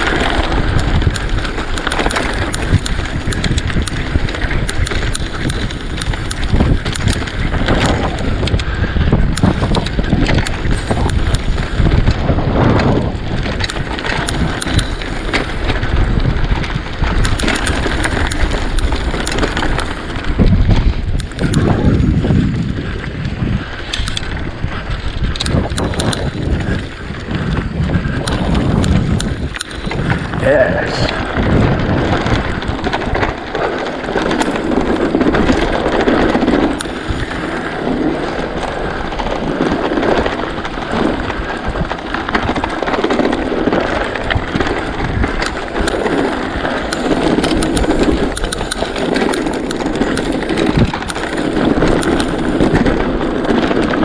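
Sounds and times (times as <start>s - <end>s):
bike rattling and clattering: 0.0s - 54.0s
bike tyres rumbling over rocks: 0.0s - 54.0s
wind rushing across microphone: 0.0s - 54.0s.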